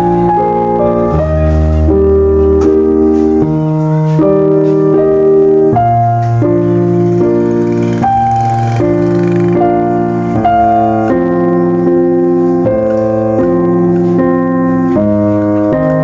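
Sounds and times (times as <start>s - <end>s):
keyboard playing sustained chords: 0.0s - 16.0s.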